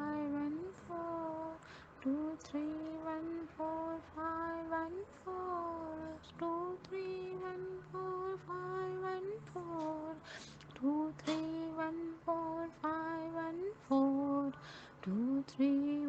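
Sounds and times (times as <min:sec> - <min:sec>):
faint low hum: 0:00.0 - 0:16.0
woman chanting in sing-song: 0:00.0 - 0:16.0.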